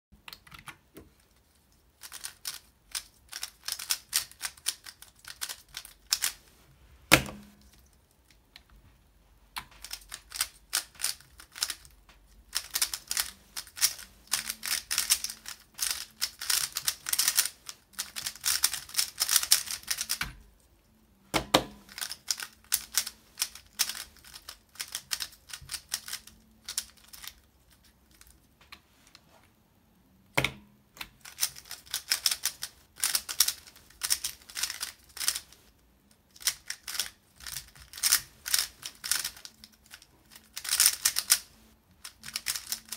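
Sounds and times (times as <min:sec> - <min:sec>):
rapid plastic clicking of puzzle cube: 0:00.3 - 0:06.4, 0:09.6 - 0:20.4, 0:21.8 - 0:28.3, 0:31.2 - 0:35.5, 0:36.2 - 0:42.9.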